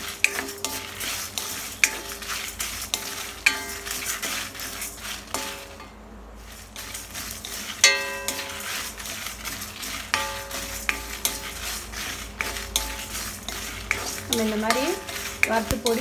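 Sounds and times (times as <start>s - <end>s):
spatula scraping lentils in a pan: 0.0s - 16.0s.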